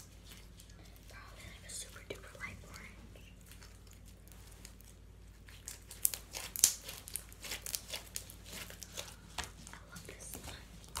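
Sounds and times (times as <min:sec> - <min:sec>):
crinkling and crackling close up: 0:00.0 - 0:11.0.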